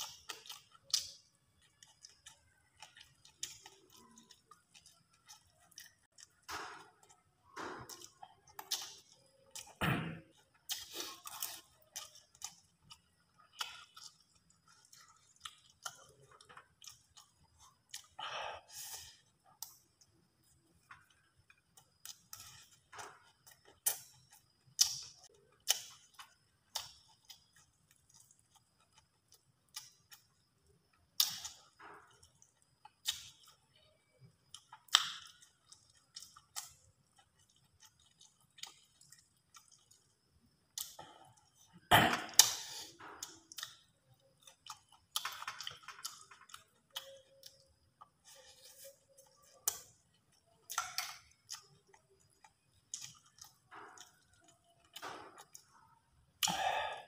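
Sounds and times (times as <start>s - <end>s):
man chewing food: 0.0s - 57.0s.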